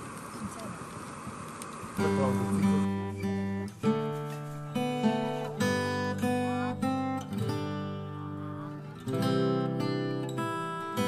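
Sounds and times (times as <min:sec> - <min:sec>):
acoustic guitar picking and strumming: 0:00.8 - 0:11.0.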